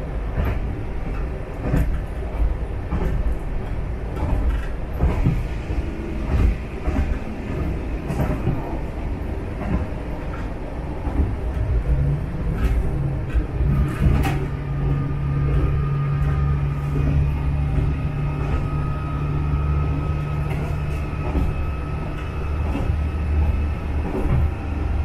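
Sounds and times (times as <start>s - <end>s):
railcar rumbling: 0.0s - 25.0s
steady low hum: 0.0s - 25.0s
wheels clacking on track: 0.0s - 25.0s.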